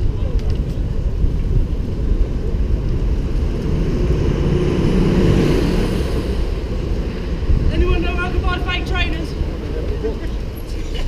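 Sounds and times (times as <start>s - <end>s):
wind buffeting microphone: 0.0s - 10.6s
lorry engine hum: 0.0s - 11.0s
town traffic: 0.0s - 11.0s.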